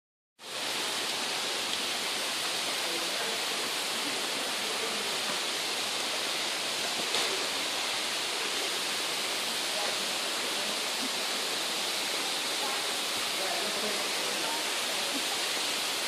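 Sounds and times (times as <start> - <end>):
waterfall rushing: 0.4 - 16.0.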